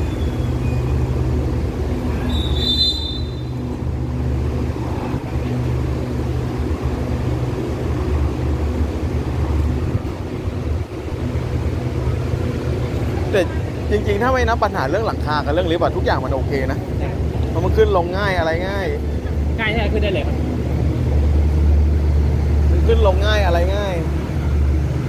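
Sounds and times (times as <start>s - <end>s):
low drone of standing trains: 0.0s - 25.0s.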